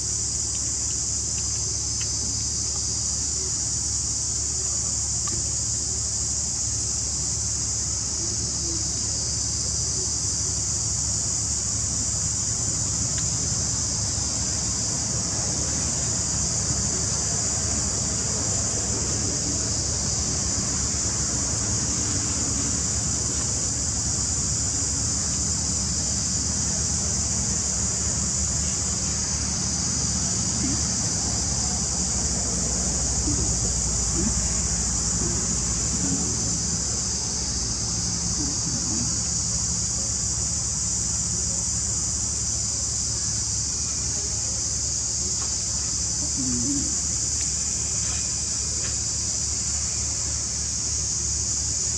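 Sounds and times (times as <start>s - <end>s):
high-pitched hiss: 0.0s - 51.9s
insect chorus: 0.0s - 51.9s.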